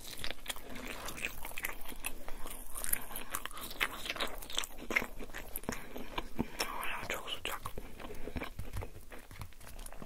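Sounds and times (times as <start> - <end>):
chewing with mouth clicks: 0.0 - 10.0.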